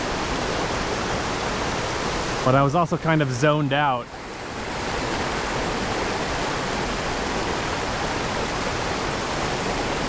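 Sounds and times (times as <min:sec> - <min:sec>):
mountain stream rushing: 0:00.0 - 0:10.0.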